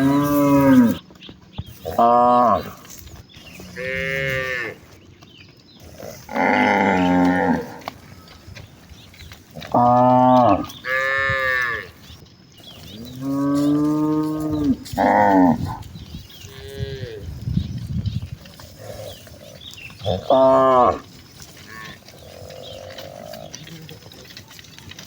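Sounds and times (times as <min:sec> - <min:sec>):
cows mooing: 0:00.0 - 0:01.0, 0:01.7 - 0:04.9, 0:05.8 - 0:08.4, 0:09.5 - 0:17.4, 0:18.6 - 0:24.5.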